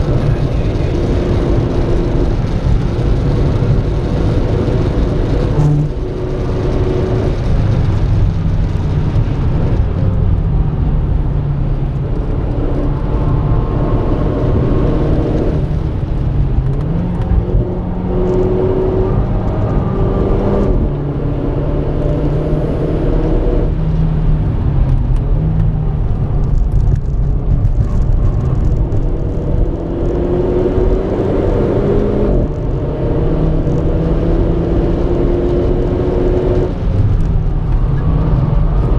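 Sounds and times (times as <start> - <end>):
car engine revving: 0.0 - 38.9
road and tyre noise: 0.0 - 38.9.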